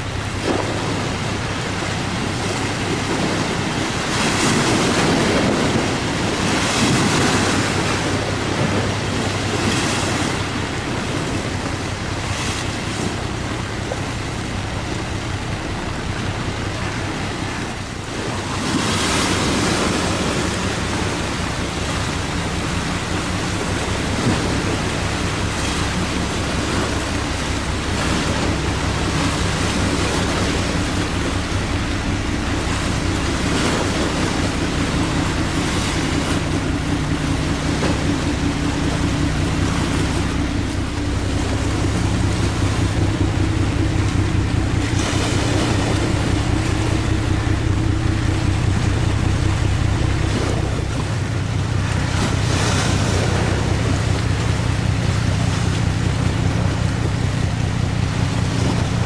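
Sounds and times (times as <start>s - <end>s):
bow wave wash rushing: 0.0s - 59.0s
low diesel drone: 0.0s - 59.0s
wind buffeting microphone: 0.0s - 59.0s.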